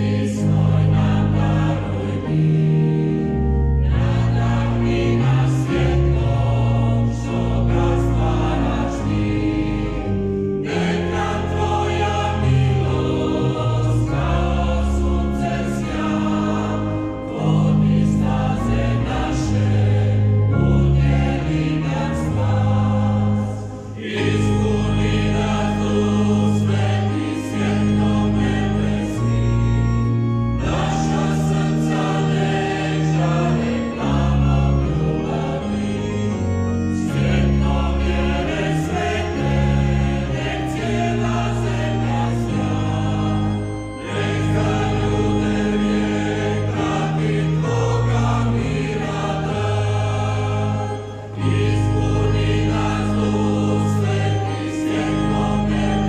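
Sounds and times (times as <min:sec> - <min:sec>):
choir singing sacred song: 0:00.0 - 0:56.0.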